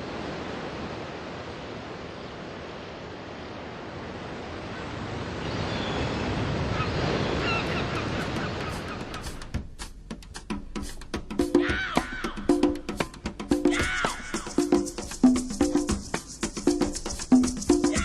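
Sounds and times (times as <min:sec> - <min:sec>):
surf: 0:00.0 - 0:18.0
wind: 0:00.0 - 0:18.0.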